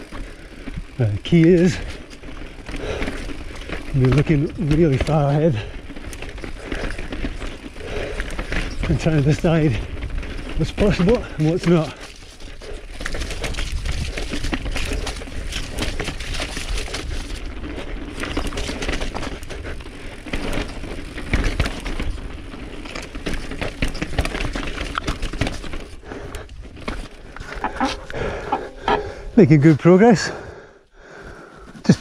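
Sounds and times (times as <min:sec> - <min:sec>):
mountain bike rattling over rocks: 0:00.0 - 0:30.5.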